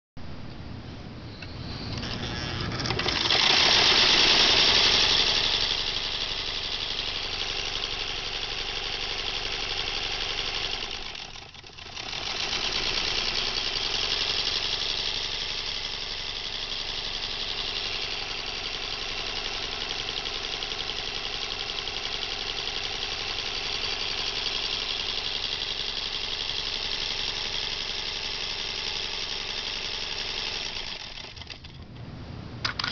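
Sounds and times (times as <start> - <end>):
sewing machine running: 1.9 - 31.8.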